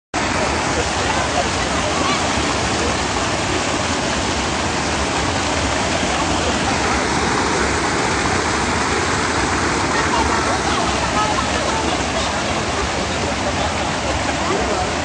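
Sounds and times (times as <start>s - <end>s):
floodwater rushing over causeway: 0.2s - 15.0s.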